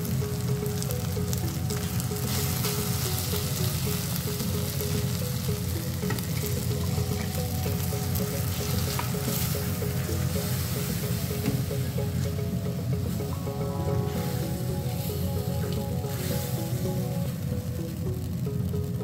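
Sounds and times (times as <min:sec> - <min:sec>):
chicken sizzling in a pan: 0:00.0 - 0:13.3, 0:13.9 - 0:19.0
simple background melody: 0:00.0 - 0:19.0.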